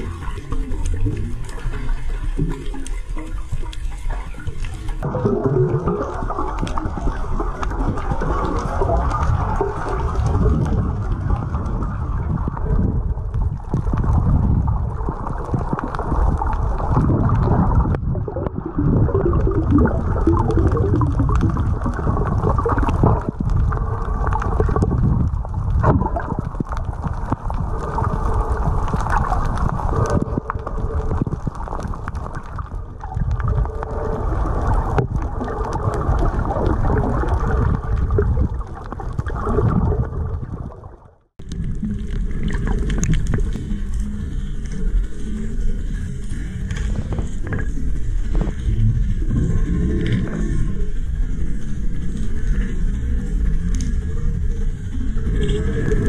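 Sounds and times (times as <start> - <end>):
underwater sloshing and gurgling: 0.0 - 56.0.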